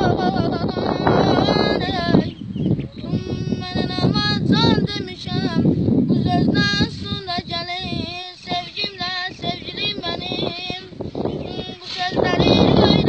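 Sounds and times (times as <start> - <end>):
person singing with trills: 0.0 - 13.0.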